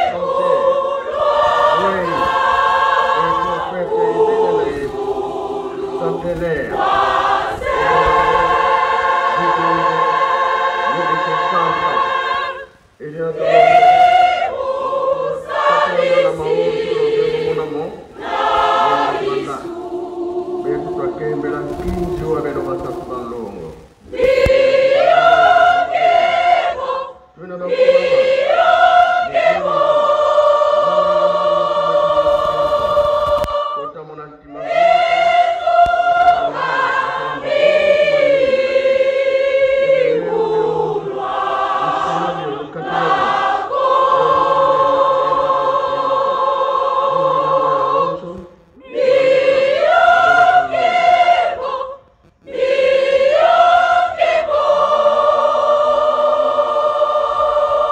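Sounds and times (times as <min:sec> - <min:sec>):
women's choir singing a hymn: 0:00.0 - 0:57.9.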